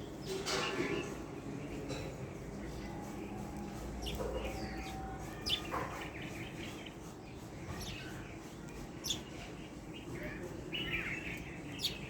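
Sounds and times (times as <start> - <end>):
soft bird twittering: 0.0 - 12.0.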